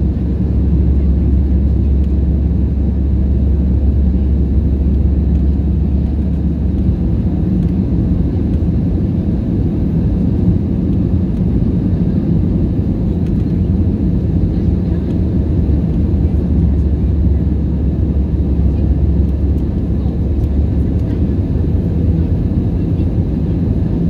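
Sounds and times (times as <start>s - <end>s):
airflow noise in aircraft cabin: 0.0s - 24.0s
jet engines droning: 0.0s - 24.0s.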